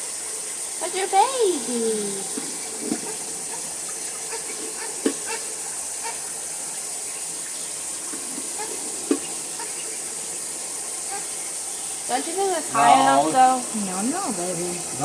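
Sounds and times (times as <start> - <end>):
water running into bathtub: 0.0 - 15.0.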